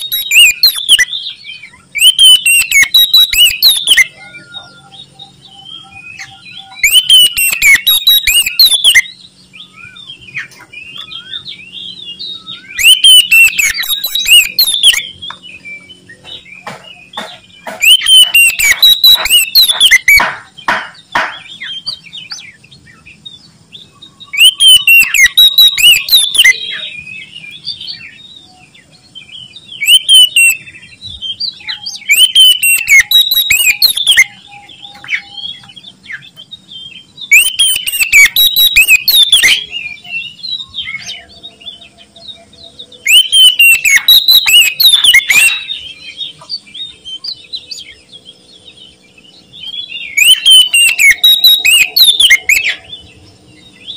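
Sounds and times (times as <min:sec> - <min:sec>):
songbird singing whistles and chatter: 0:00.0 - 0:53.9.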